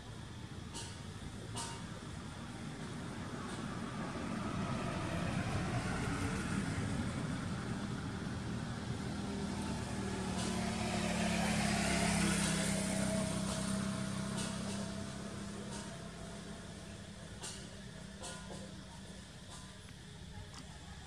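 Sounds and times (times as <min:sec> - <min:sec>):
road hiss: 0:00.0 - 0:21.0
vehicle engine humming: 0:00.0 - 0:21.0.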